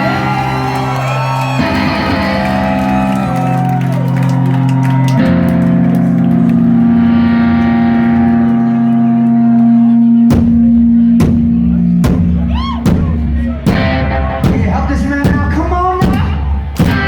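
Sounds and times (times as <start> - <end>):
distorted electric guitar chords: 0.0 - 15.1.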